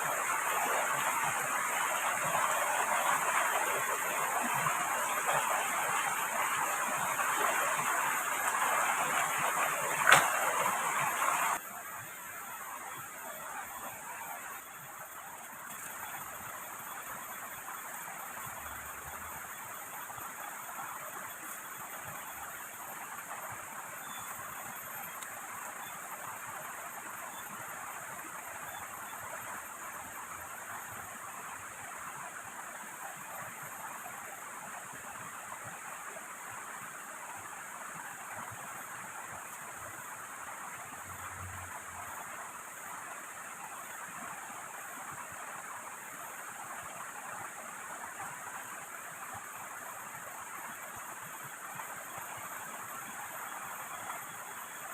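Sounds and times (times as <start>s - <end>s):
flowing river water: 0.0s - 54.9s.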